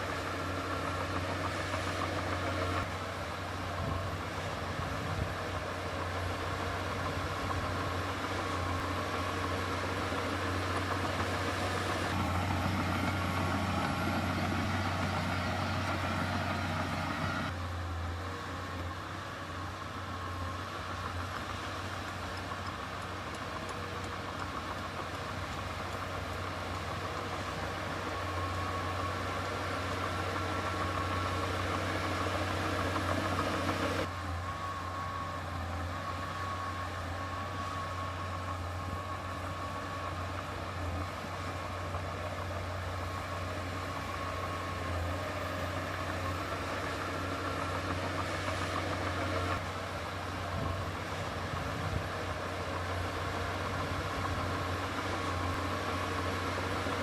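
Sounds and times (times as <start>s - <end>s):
diesel construction machinery running: 0.0s - 57.0s.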